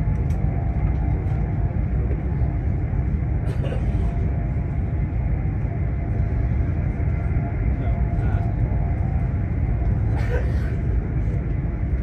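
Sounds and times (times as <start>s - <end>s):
train carriage rumble and road noise: 0.0s - 12.0s.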